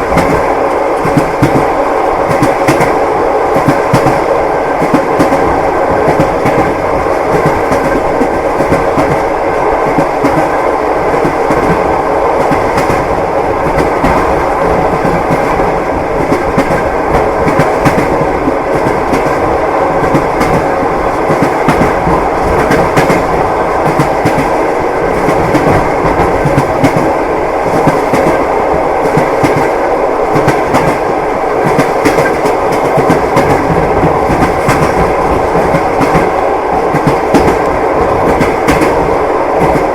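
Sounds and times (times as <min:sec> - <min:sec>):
railway carriage rumble: 0:00.0 - 0:39.9
train wheels clattering: 0:00.0 - 0:39.9.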